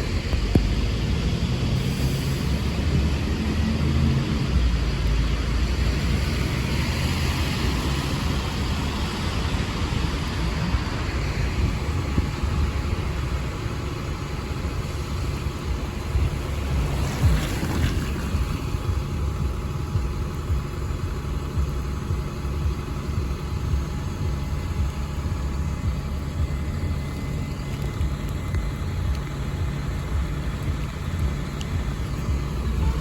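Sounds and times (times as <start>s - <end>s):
bus diesel engine idling: 0.0s - 33.0s
traffic hiss on wet road: 0.0s - 33.0s.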